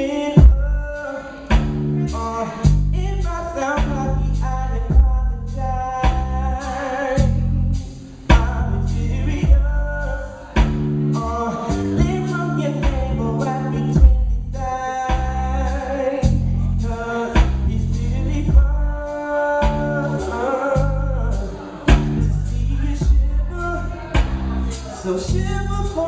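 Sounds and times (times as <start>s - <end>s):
heavy bass line: 0.0s - 26.0s
soul song with singing: 0.0s - 26.0s.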